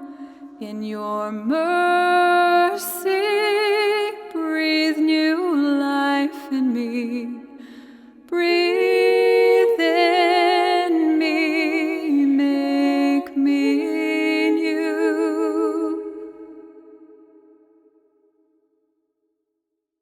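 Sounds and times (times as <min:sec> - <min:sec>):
person singing with vibrato: 0:00.0 - 0:17.4.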